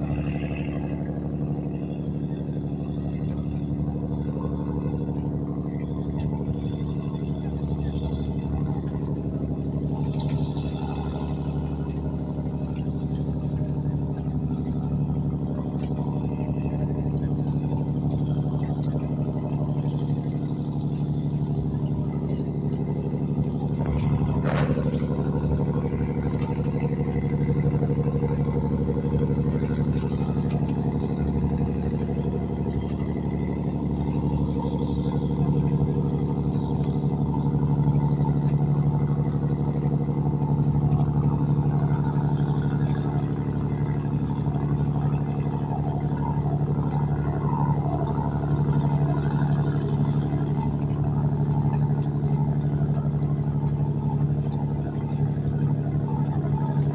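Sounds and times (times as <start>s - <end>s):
boat engine humming: 0.0s - 56.9s.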